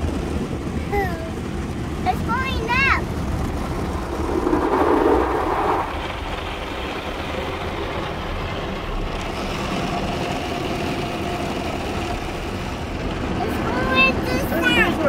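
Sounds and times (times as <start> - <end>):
car wash machinery: 0.0 - 15.0
water spraying against car windows: 1.0 - 15.0.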